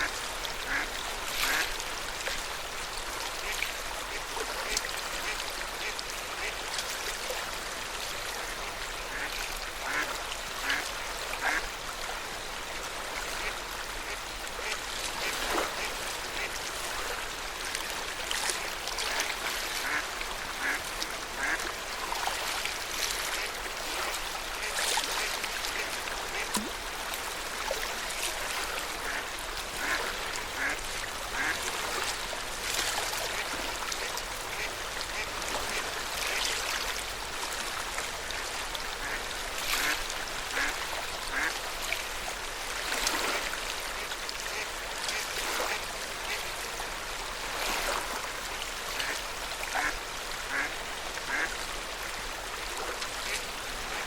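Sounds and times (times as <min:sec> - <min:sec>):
water lapping at shore: 0:00.0 - 0:54.0.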